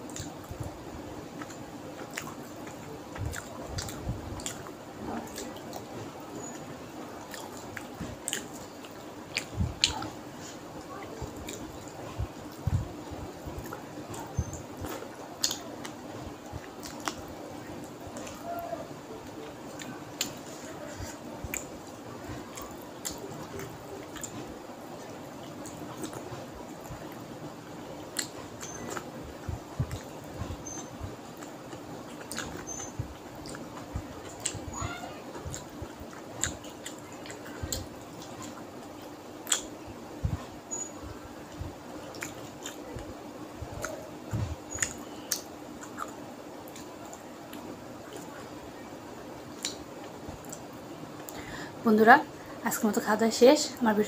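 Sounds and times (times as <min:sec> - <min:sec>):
faint steady hum: 0:00.0 - 0:54.0
chewing and lip smacks: 0:00.1 - 0:00.7, 0:01.4 - 0:12.8, 0:13.6 - 0:18.4, 0:19.2 - 0:27.3, 0:28.0 - 0:48.5, 0:49.5 - 0:51.4.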